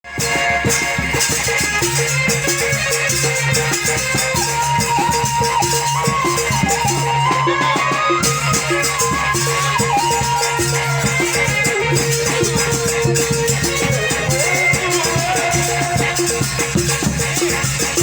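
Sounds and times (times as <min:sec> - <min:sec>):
drum pattern: 0:00.1 - 0:18.0
wavering high melody: 0:00.2 - 0:18.0.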